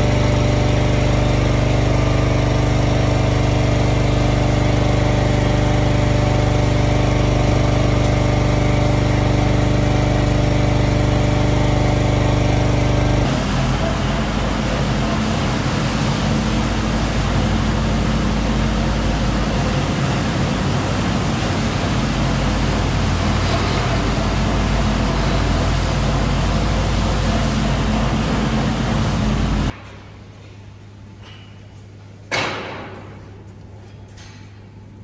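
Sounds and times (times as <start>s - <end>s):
tractor engine hum: 0.0s - 29.7s.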